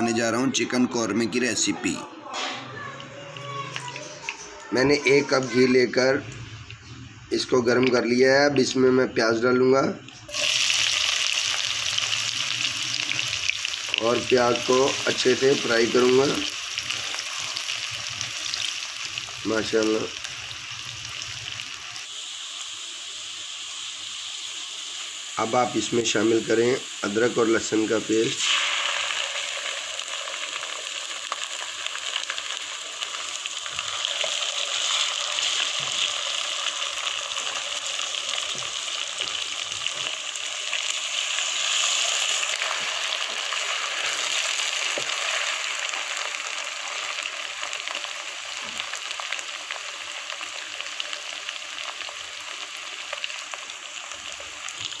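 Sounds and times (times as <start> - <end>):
onions sizzling in ghee: 2.7 - 55.0.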